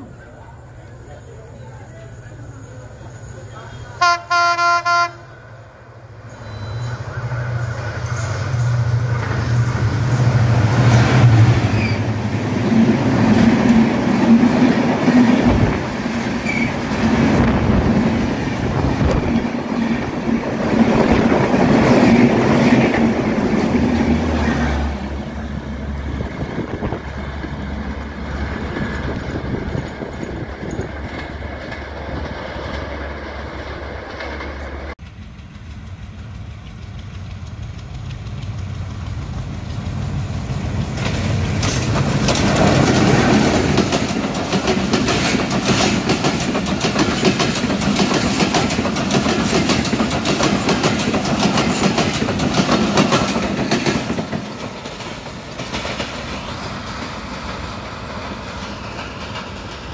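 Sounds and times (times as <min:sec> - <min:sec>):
diesel locomotive: 0:00.0 - 0:59.9
passenger train passing: 0:00.0 - 0:59.9.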